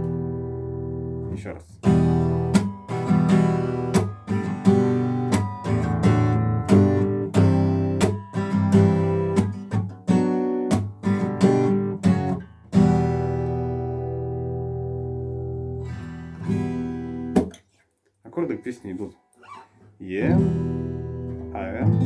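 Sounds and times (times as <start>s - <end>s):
acoustic guitar strumming: 0.0s - 17.6s, 18.3s - 22.0s.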